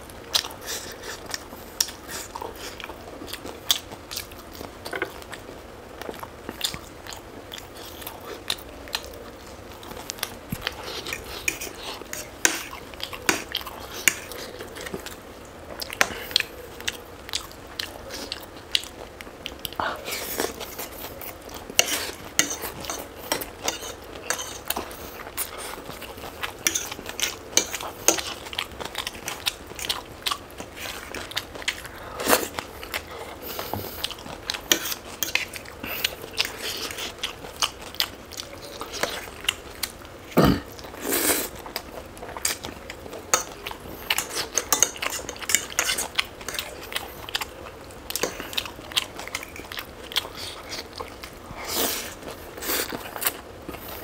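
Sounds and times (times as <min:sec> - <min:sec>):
person chewing crunchy food: 0:00.2 - 0:54.0.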